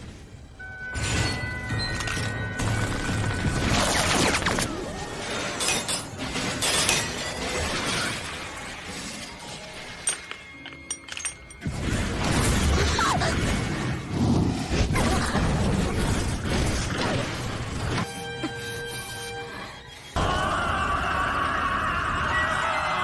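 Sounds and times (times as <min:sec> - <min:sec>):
music: 0:00.0 - 0:14.2, 0:17.6 - 0:23.0.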